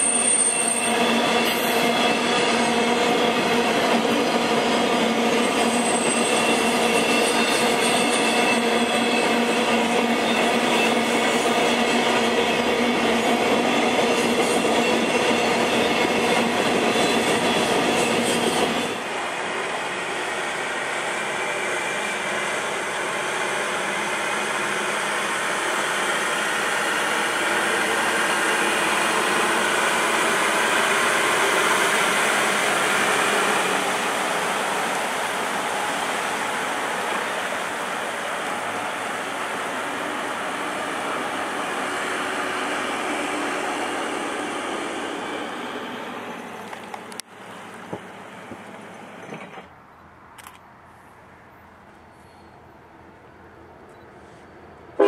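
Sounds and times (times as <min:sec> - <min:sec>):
freight train rail clatter: 0:00.0 - 0:49.8.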